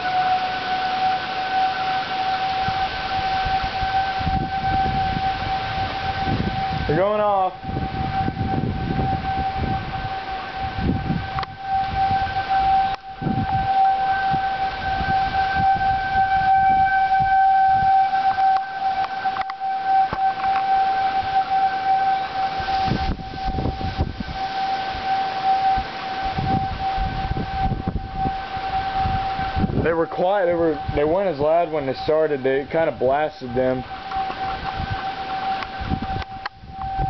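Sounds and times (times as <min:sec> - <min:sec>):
low rumbling noise: 0:00.0 - 0:37.0
warning siren steady tone: 0:00.0 - 0:37.0.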